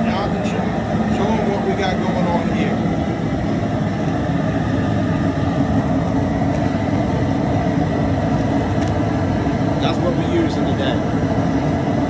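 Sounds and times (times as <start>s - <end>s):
propane burner roaring: 0.0s - 12.0s.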